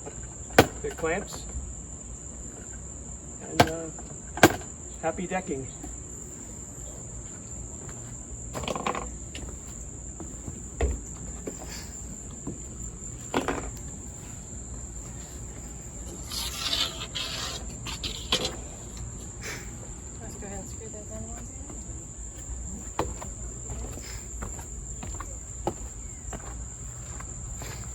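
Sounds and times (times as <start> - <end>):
crickets chirring: 0.0 - 27.9.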